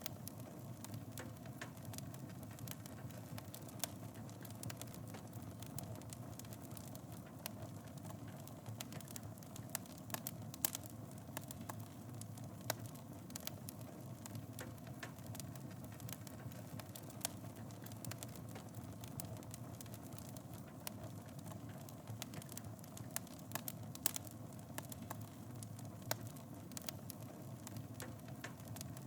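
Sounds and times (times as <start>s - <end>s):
fire crackling in fireplace: 0.0s - 29.0s.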